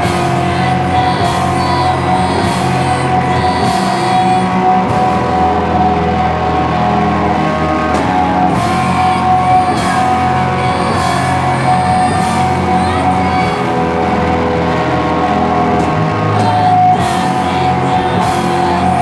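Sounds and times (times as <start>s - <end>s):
distorted rock chords droning: 0.0s - 19.0s.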